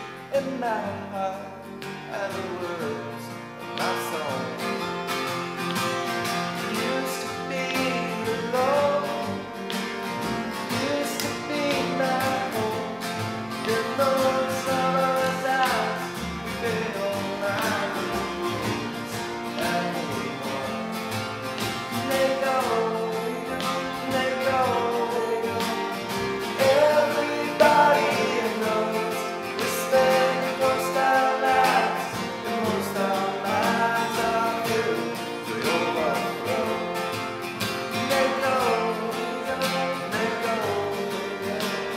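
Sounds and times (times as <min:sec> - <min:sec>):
man singing: 0:00.0 - 0:04.8, 0:06.6 - 0:09.4, 0:10.6 - 0:41.9
acoustic guitars strummed and picked: 0:00.0 - 0:41.9.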